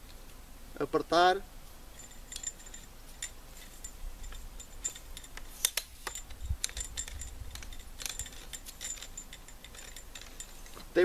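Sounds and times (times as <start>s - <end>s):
tripod legs clicking: 2.0s - 11.0s.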